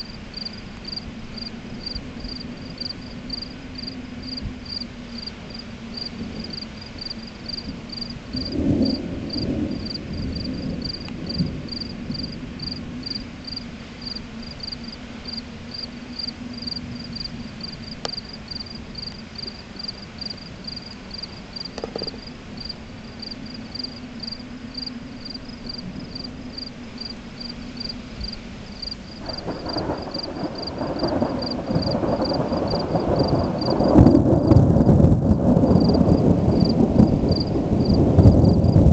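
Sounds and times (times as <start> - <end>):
crickets chirping: 0.0 - 38.9
thunder rumbling: 0.0 - 38.9.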